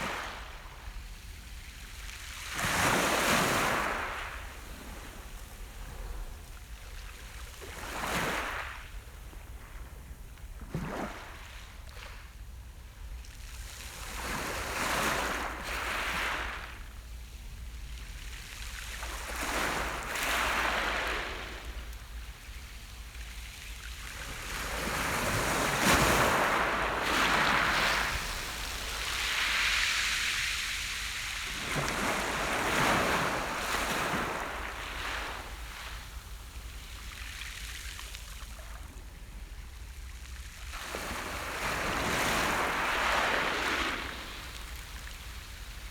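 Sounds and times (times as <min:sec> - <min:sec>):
small waves breaking on shore: 0:00.0 - 0:12.4, 0:13.3 - 0:45.9.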